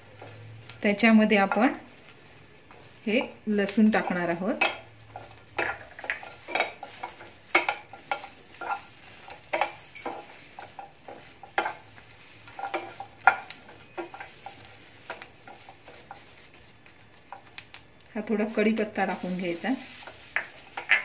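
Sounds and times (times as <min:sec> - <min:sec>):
spatula scraping a frying pan: 0:00.0 - 0:17.5, 0:19.0 - 0:21.0
light sizzle: 0:00.0 - 0:21.0.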